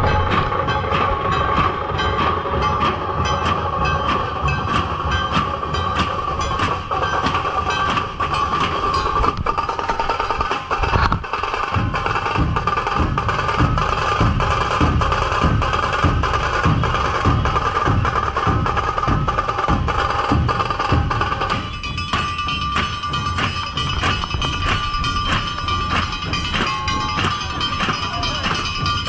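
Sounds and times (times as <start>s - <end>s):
bass drum beats: 0.0s - 29.0s
small drums ticking: 0.0s - 29.0s.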